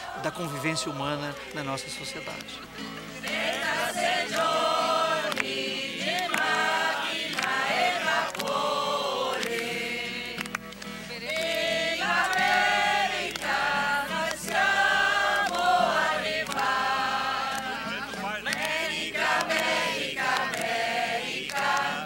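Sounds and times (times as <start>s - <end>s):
choir singing: 0.0s - 10.5s, 11.1s - 22.0s.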